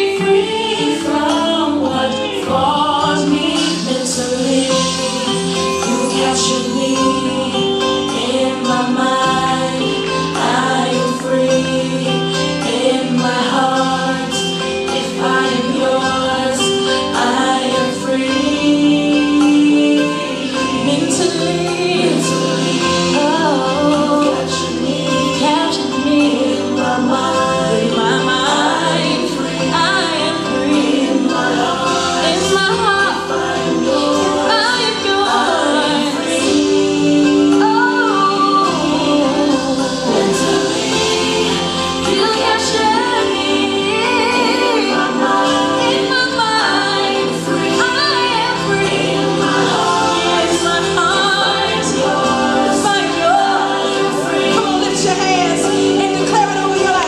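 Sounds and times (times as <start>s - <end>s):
gospel singing with choir: 0.0s - 57.0s
steady accompaniment: 0.0s - 57.0s.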